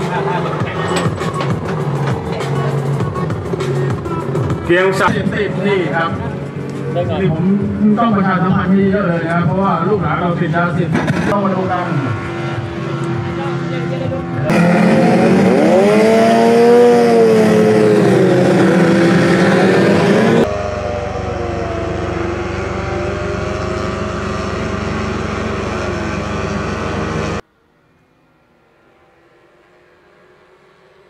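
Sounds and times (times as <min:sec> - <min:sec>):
racing outboard engines revving: 0:00.0 - 0:27.4.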